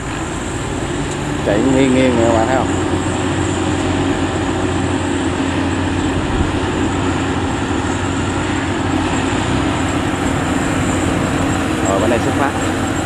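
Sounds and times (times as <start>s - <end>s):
combine harvester engine drone: 0.0s - 13.0s
faint high whine: 0.0s - 13.0s.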